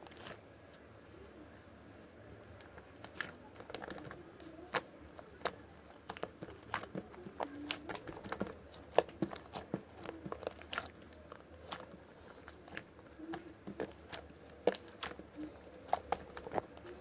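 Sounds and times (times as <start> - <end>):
slime being squished by hand: 0.0 - 0.9, 2.3 - 17.0.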